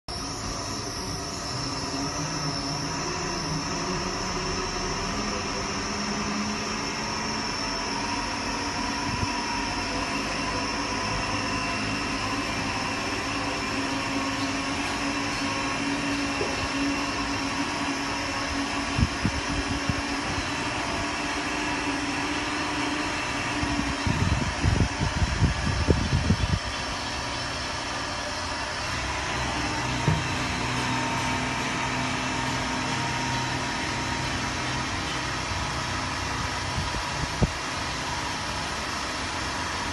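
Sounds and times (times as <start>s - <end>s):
crane machinery hum and whine: 0.1s - 39.9s.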